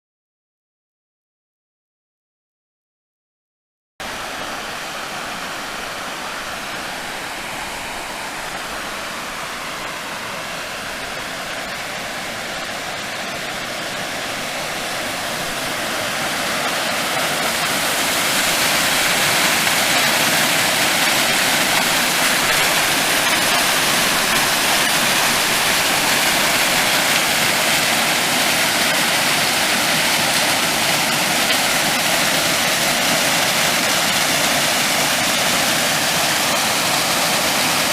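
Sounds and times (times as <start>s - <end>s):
waterfall pouring and splashing: 4.0s - 37.9s.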